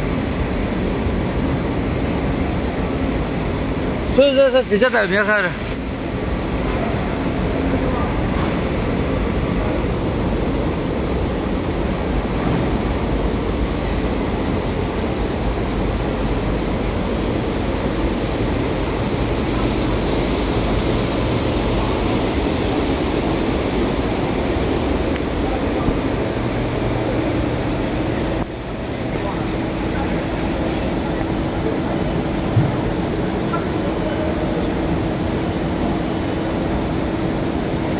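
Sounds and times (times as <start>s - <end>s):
machine drone with low hum: 0.0s - 37.9s.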